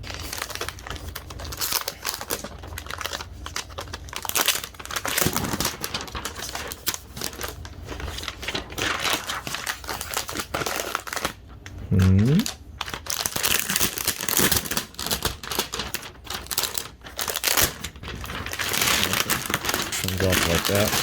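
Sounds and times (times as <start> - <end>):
plastic packaging crinkling: 0.0 - 11.6, 12.4 - 21.0.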